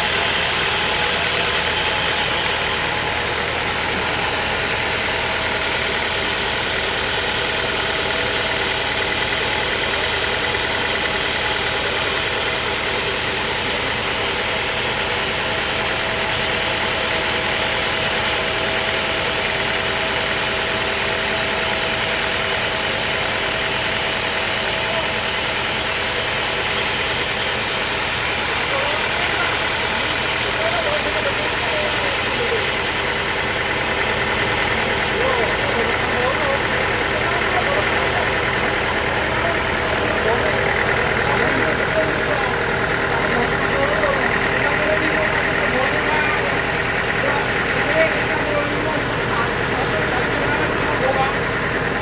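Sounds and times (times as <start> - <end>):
sawmill engine drone: 0.0 - 52.0.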